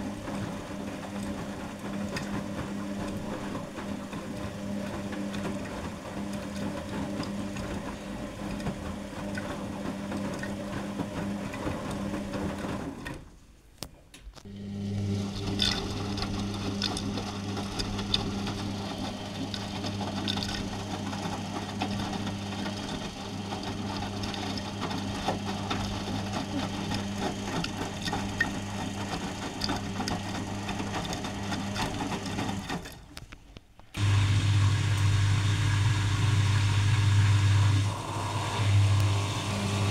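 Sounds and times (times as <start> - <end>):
washing machine motor humming: 0.0 - 13.3, 14.5 - 33.2, 33.8 - 39.9.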